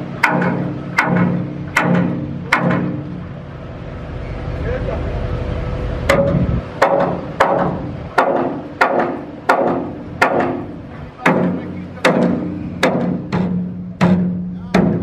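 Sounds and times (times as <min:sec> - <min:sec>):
hammer striking steel: 0:00.0 - 0:03.2, 0:06.1 - 0:15.0.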